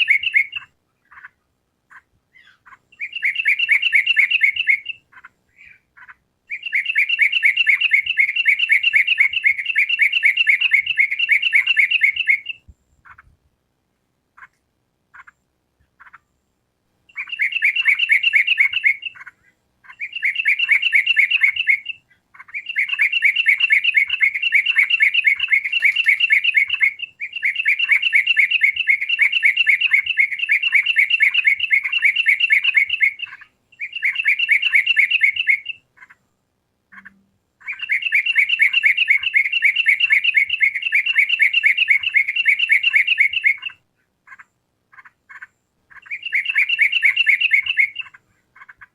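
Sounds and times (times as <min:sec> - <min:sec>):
bird song rapid chirping: 0:00.0 - 0:13.4, 0:17.0 - 0:36.2, 0:36.9 - 0:48.9.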